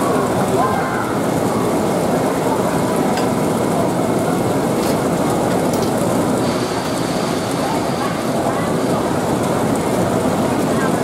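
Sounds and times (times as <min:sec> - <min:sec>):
loud background din: 0:00.0 - 0:11.0.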